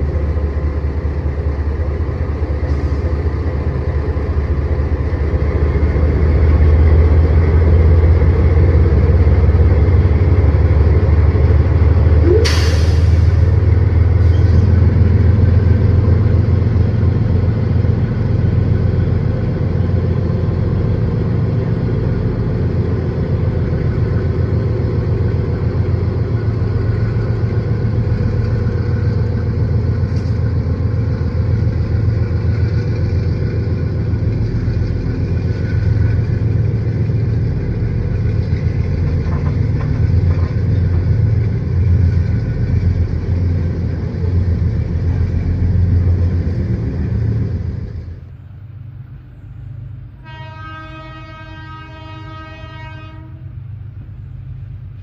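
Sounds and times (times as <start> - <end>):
locomotive engines running low: 0.0 - 50.2
wagons rumbling over rails: 0.0 - 55.0.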